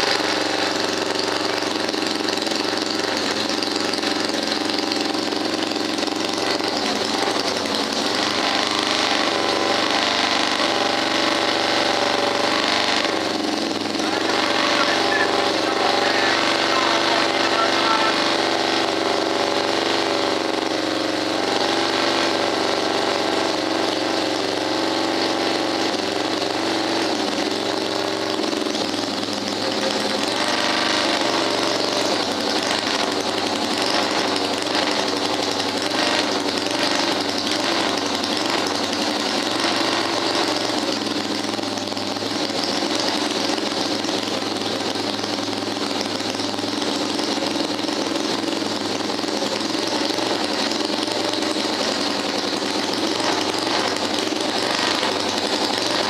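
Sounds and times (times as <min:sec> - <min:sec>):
two-cylinder racing engine running: 0:00.0 - 0:56.0.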